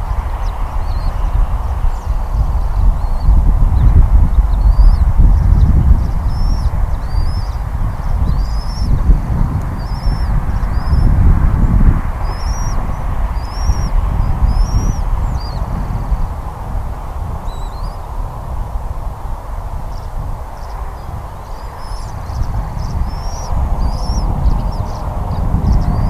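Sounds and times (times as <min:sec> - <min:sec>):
bird chirping: 0:00.4 - 0:11.2, 0:12.2 - 0:15.7, 0:17.4 - 0:18.1, 0:19.8 - 0:26.0.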